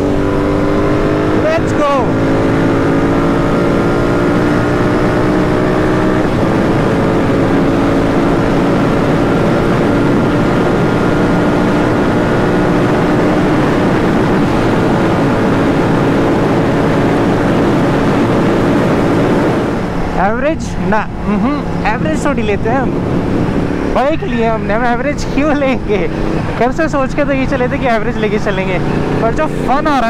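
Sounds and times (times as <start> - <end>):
motorcycle engine cruising: 0.0 - 30.0
wind noise: 2.1 - 30.0.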